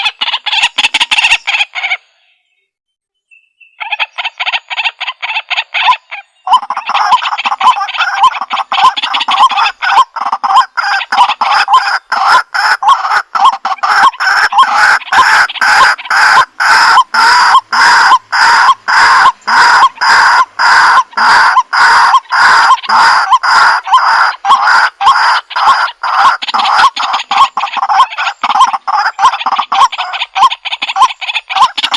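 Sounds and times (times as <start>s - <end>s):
bird calling harsh kwak notes: 3.6s - 31.9s.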